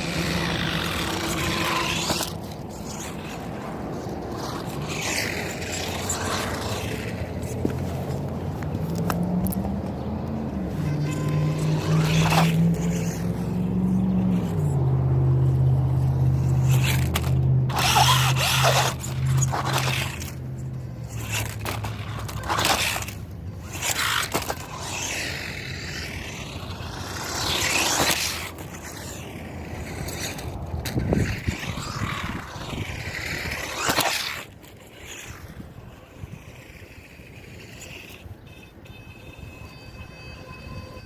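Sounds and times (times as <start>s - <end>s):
tyres scraping over ground: 0.0s - 41.0s.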